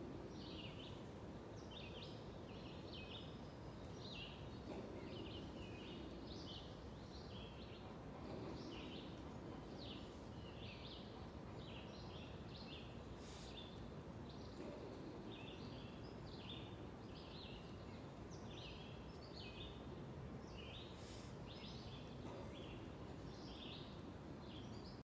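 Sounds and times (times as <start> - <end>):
birds chirping: 0.0 - 25.0
low background noise: 0.0 - 25.0.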